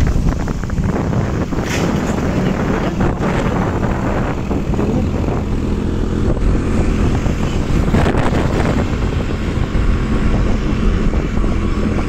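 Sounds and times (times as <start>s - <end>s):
motorcycle engine running: 0.0s - 12.0s
wind rush over microphone: 0.0s - 12.0s.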